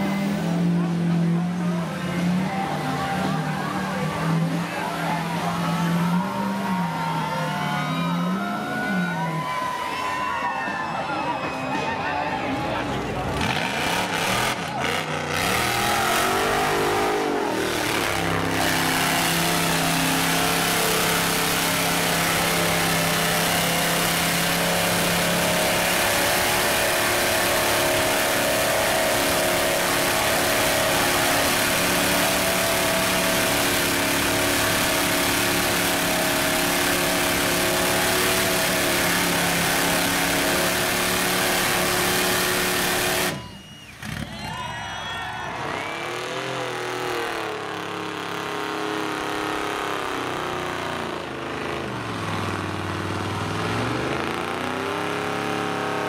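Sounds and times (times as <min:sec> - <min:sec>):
buggy engine revving: 0:00.0 - 0:09.9, 0:12.5 - 0:56.0.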